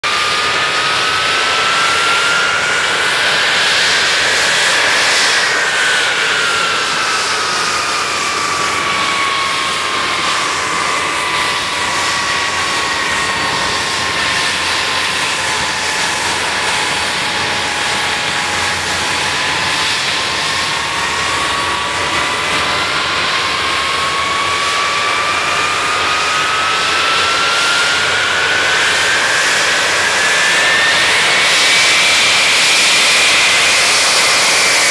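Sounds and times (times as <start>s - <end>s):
jet engines roaring with high whine: 0.0s - 34.9s.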